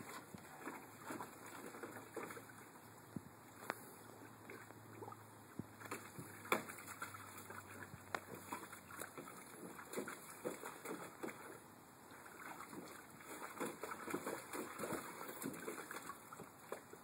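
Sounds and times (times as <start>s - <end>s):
water sloshing and splashing: 0.0s - 17.0s.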